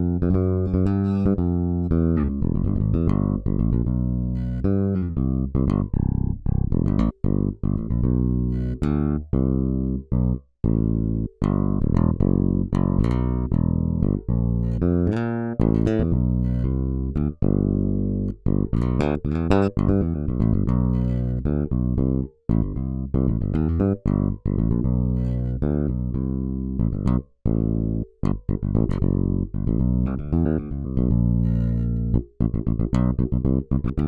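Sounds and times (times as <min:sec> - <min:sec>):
plucked bass notes: 0:00.0 - 0:34.0.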